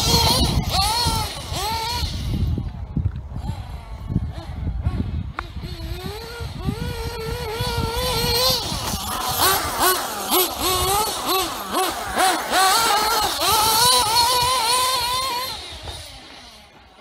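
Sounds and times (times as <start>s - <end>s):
rc buggy motor whining: 0.0s - 17.0s.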